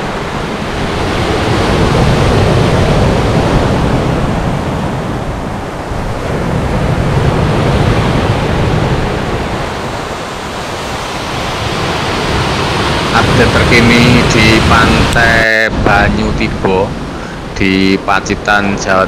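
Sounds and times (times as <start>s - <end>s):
surf breaking on rocky shore: 0.0s - 19.0s.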